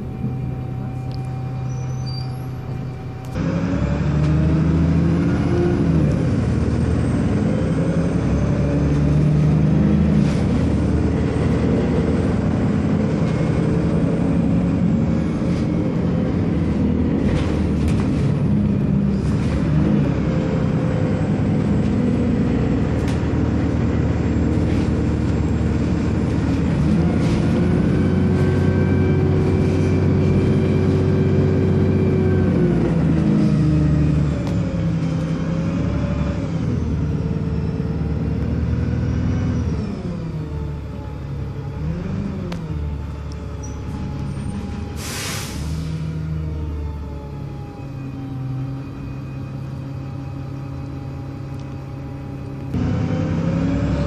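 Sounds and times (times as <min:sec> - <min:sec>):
bus body rumble and rattle: 0:00.0 - 0:54.0
bus engine accelerating: 0:00.0 - 0:54.0.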